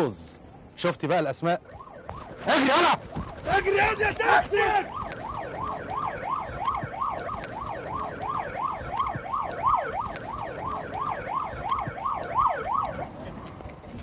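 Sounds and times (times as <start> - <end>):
police siren yelping: 1.6 - 13.7.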